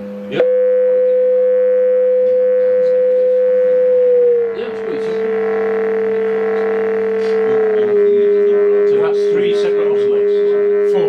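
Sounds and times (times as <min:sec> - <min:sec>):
buzzy overtones: 0:00.0 - 0:11.0
high electronic oscillator tone: 0:00.0 - 0:11.0
low electronic oscillator tone: 0:00.0 - 0:11.0.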